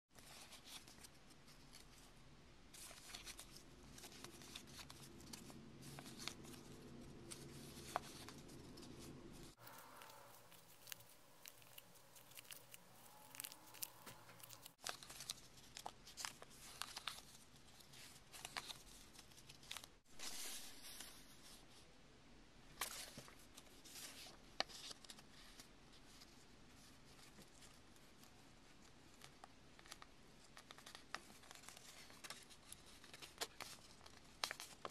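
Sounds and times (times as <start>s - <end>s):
paper rustling and crinkling: 0.2s - 2.1s, 2.7s - 21.6s, 22.8s - 34.9s.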